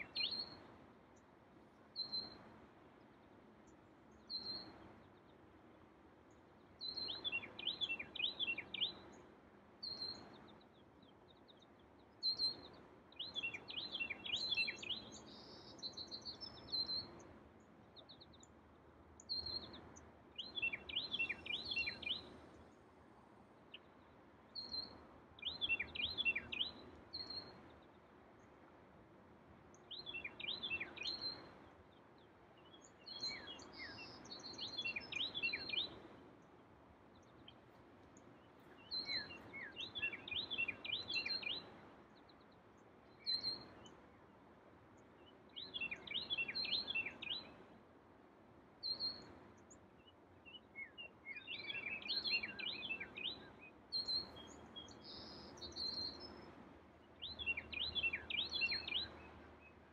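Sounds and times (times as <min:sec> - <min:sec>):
songbird singing whistled notes: 0:00.0 - 0:05.4, 0:06.3 - 0:22.8, 0:23.7 - 0:28.7, 0:29.7 - 0:44.4, 0:45.0 - 0:47.8, 0:48.8 - 0:59.9
faint steady hiss: 0:00.0 - 0:59.9.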